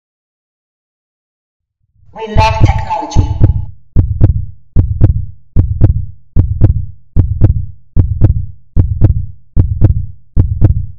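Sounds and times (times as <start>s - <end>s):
deep heartbeat-like thumps: 2.0s - 10.9s.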